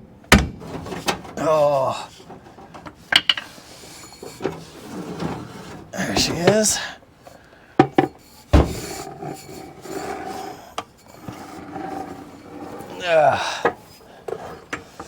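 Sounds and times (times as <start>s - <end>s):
bolt threads scraping: 0.6s - 15.0s.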